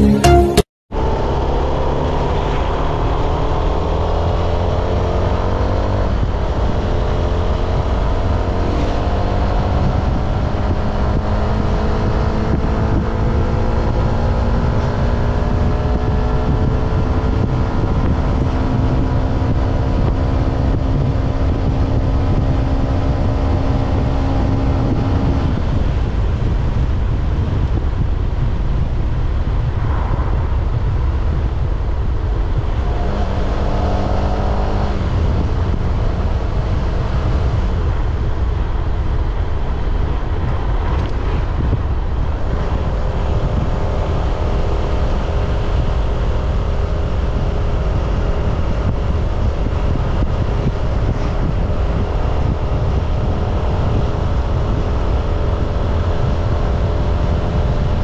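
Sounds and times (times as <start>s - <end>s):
wind rumble on microphone: 0.9s - 58.0s.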